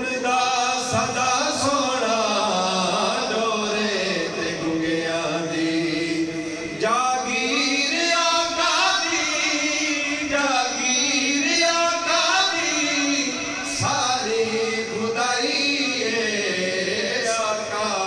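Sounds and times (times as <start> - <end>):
man singing into microphone: 0.0 - 18.0.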